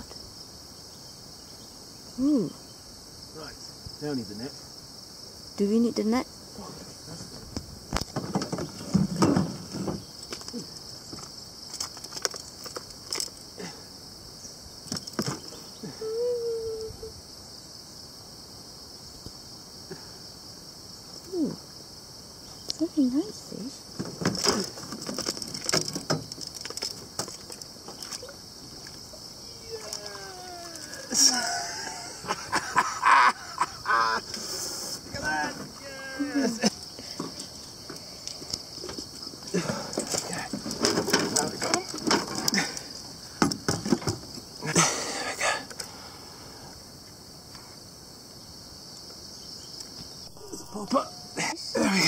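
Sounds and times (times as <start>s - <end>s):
chorus of insects: 0.0s - 52.0s.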